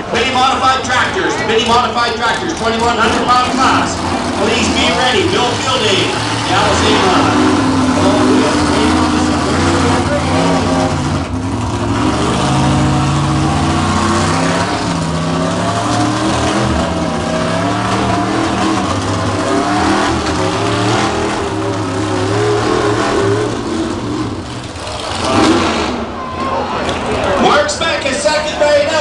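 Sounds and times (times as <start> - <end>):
truck engine running hard: 0.0 - 29.0.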